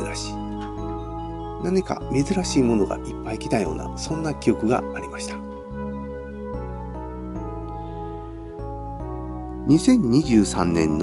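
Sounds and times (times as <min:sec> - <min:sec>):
soft sustained chords music: 0:00.0 - 0:11.0.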